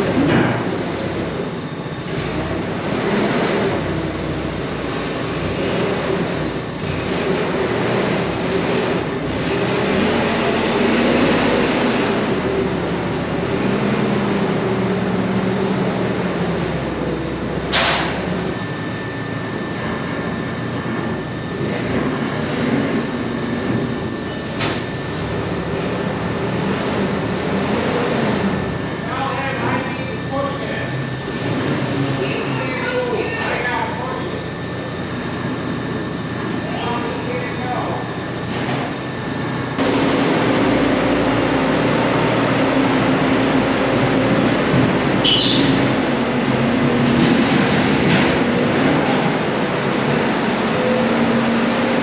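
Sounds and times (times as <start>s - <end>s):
forklift engine driving: 0.0s - 52.0s.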